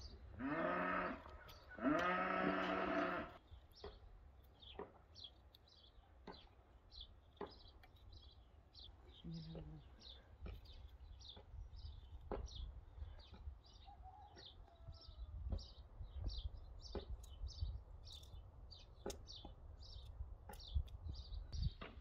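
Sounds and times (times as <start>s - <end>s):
small bird chirping: 1.1s - 21.9s.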